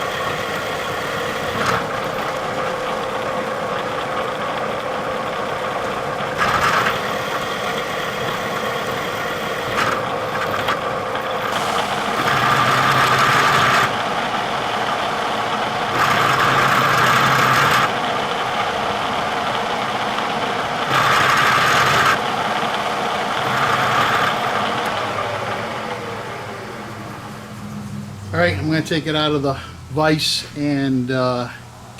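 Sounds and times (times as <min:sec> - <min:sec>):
milling machine cutting metal: 0:00.0 - 0:29.4.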